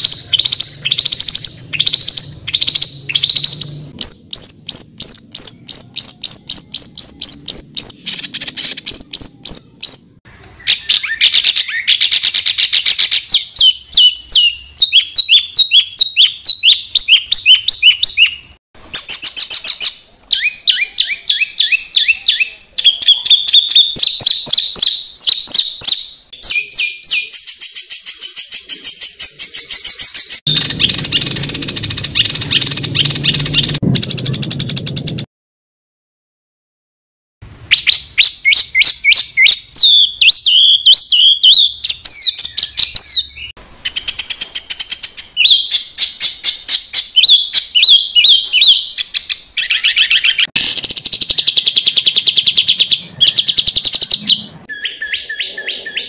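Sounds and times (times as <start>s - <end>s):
songbird chirps and trills: 0.0s - 35.3s, 37.8s - 56.0s.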